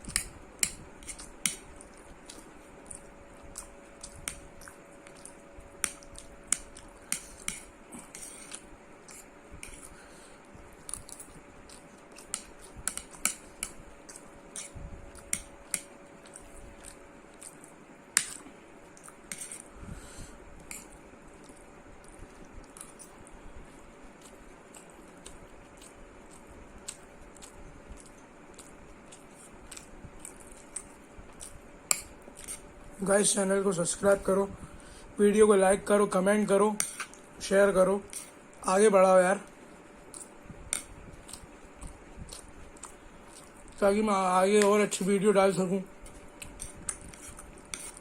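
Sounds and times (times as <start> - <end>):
soft chewing: 0.0 - 33.0, 36.8 - 38.8, 39.4 - 48.0.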